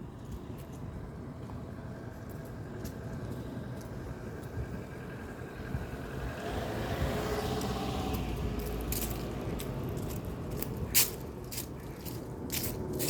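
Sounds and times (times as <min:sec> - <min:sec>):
road vehicle passing by: 0:00.0 - 0:13.0.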